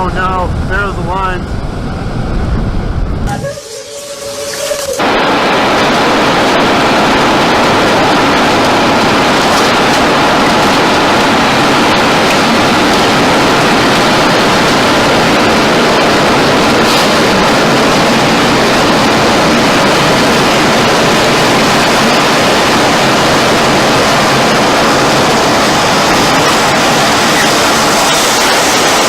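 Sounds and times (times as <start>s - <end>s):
tornado wind rushing: 0.0s - 29.0s.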